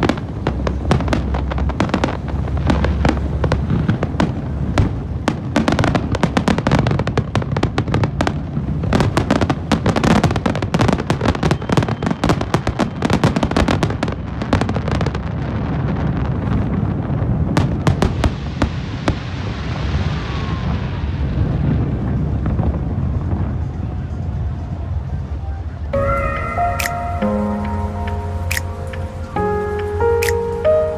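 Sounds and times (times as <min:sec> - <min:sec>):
fireworks cracks and bangs: 0:00.0 - 0:25.4, 0:26.0 - 0:30.9
fireworks crackle: 0:00.0 - 0:30.9.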